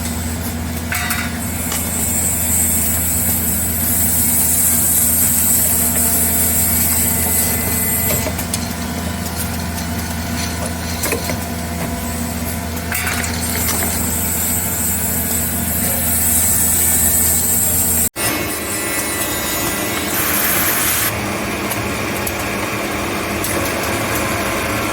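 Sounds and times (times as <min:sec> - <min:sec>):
high machine whine: 0:00.0 - 0:24.9.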